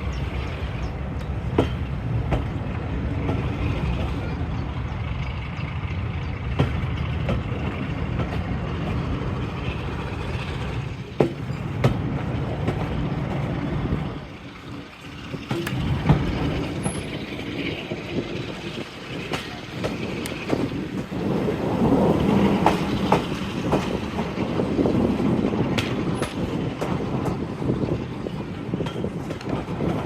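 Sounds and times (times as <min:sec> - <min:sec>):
diesel train rumbling: 0:00.0 - 0:30.0
sharp knocks of train: 0:00.1 - 0:30.0.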